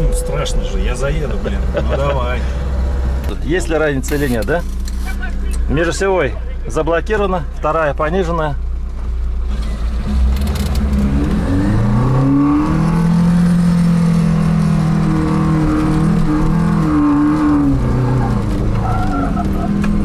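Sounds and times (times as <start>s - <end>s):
car engine pulling hard: 0.0s - 20.0s.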